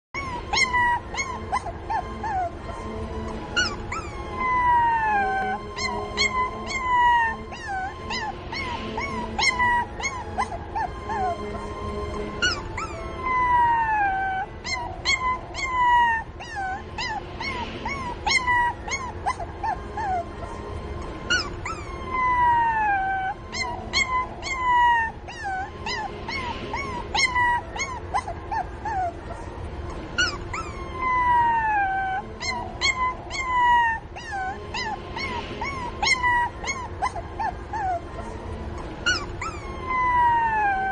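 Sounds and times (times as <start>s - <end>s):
puppy whining: 0.1s - 40.9s
puppy yelping and whimpering: 0.1s - 40.9s.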